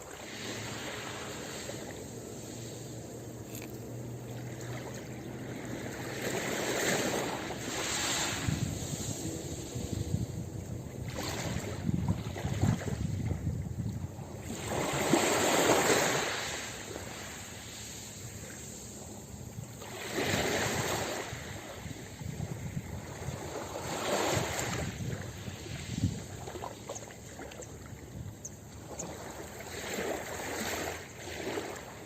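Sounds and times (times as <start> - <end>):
low rumbling wash of water: 0.0 - 32.0
ocean waves breaking on beach: 0.0 - 32.0.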